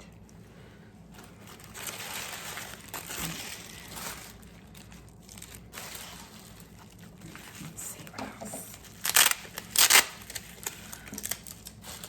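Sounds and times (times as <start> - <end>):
paper packaging crinkling: 1.1 - 8.1, 8.7 - 12.0.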